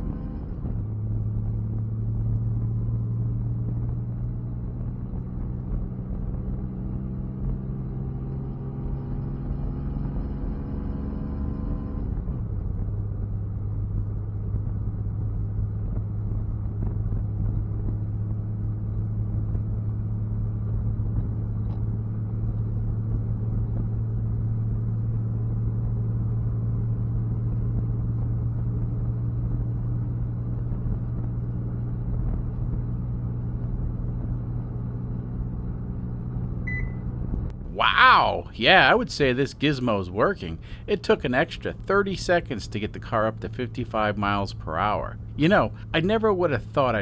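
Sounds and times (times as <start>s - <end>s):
diesel engine droning: 0.0s - 47.0s
road noise: 0.0s - 47.0s.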